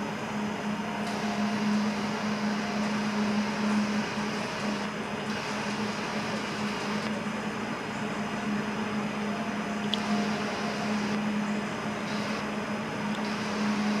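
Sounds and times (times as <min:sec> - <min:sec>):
machinery and ventilation hum: 0:00.0 - 0:14.0.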